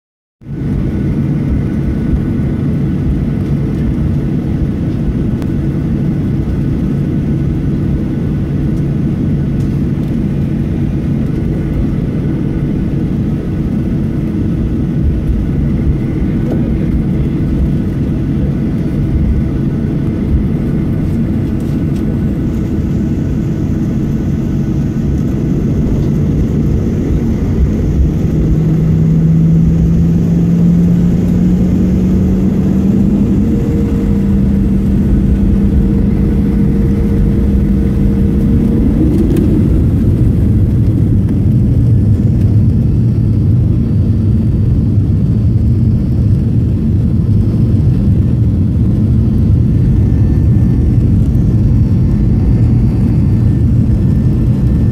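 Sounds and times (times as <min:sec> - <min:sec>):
jet engines humming in cabin: 0:00.4 - 0:54.9.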